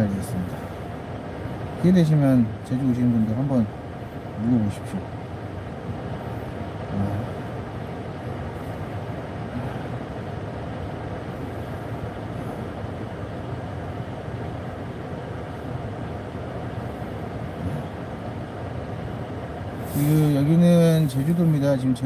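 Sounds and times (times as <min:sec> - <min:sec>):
idling car cabin hum: 0:00.0 - 0:22.0.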